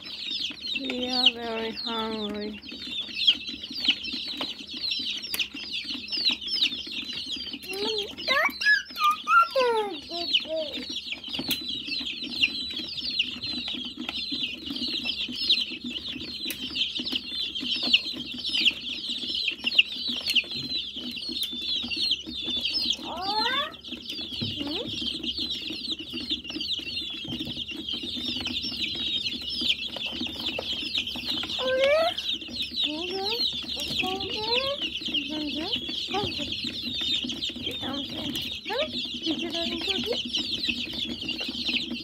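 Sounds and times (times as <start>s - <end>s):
chicks peeping: 0.0s - 42.0s.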